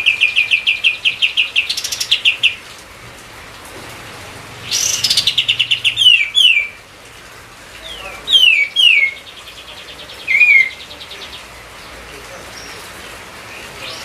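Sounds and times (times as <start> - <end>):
songbird singing: 0.0 - 2.8, 4.6 - 6.9, 7.7 - 14.0.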